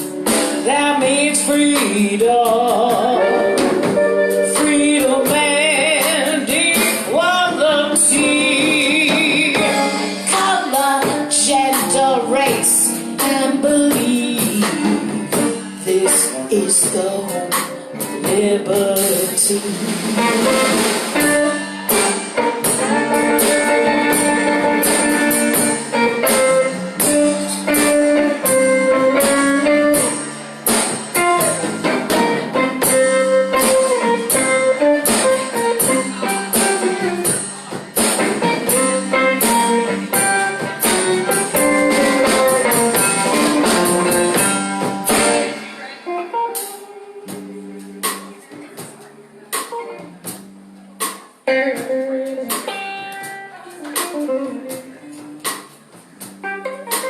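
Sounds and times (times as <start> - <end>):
drums: 0.0 - 57.0
electric guitar: 0.0 - 57.0.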